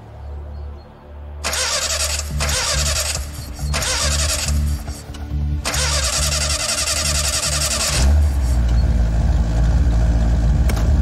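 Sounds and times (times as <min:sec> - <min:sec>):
car engine starting and running: 0:01.4 - 0:11.0.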